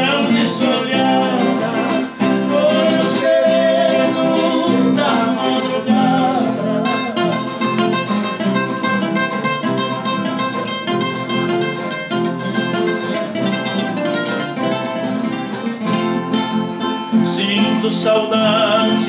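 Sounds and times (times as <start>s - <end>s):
plucked string instruments playing: 0.0s - 19.0s.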